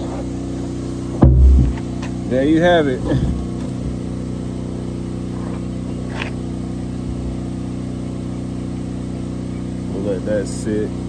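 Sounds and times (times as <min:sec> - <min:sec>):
steady engine hum: 0:00.0 - 0:11.0.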